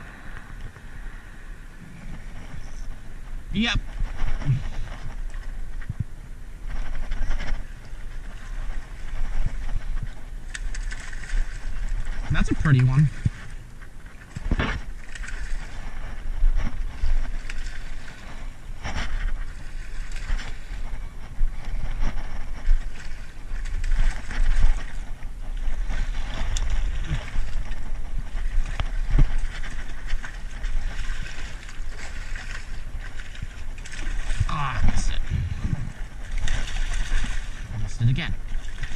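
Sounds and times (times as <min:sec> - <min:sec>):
wind rumble on microphone: 0:00.0 - 0:38.9
water splashing against rocks: 0:01.9 - 0:38.9
fish thrashing in water: 0:06.6 - 0:38.9.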